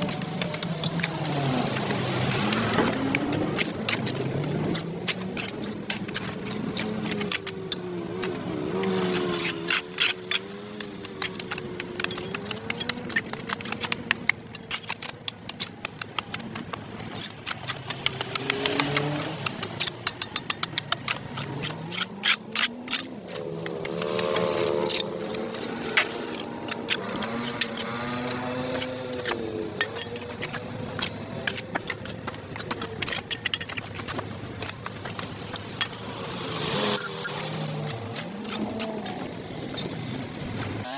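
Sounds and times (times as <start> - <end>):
sharp clicks and scrapes: 0.0 - 40.9.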